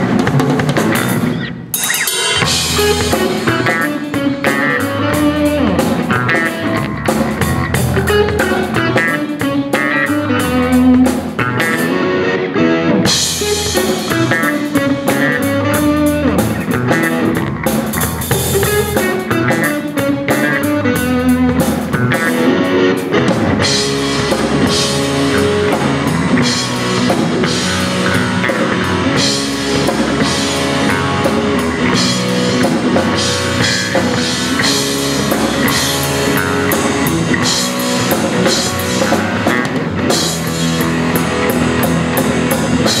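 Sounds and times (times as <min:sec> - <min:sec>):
drum kit and cymbals: 0:00.0 - 0:12.0, 0:13.0 - 0:43.0
bass guitar: 0:00.0 - 0:43.0
electric guitar: 0:00.0 - 0:43.0.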